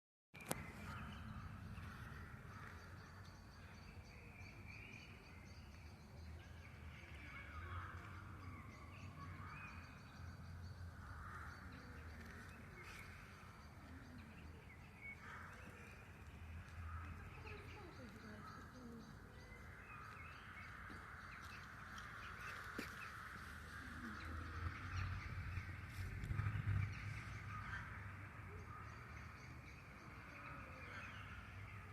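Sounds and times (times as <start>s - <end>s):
birds calling and chirping: 0.4s - 31.9s.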